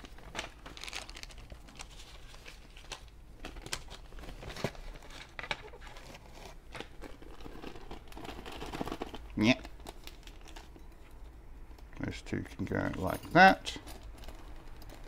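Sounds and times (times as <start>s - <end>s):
packaging crinkling and rustling: 0.0s - 11.3s, 12.5s - 15.0s.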